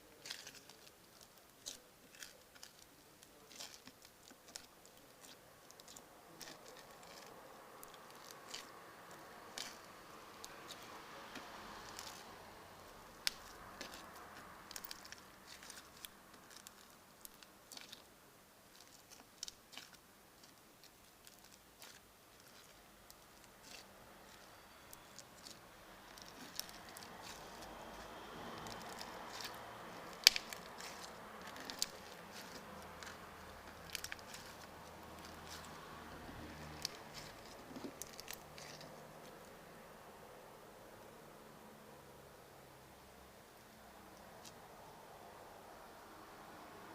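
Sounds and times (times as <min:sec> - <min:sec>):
distant road traffic: 0:00.0 - 0:46.9.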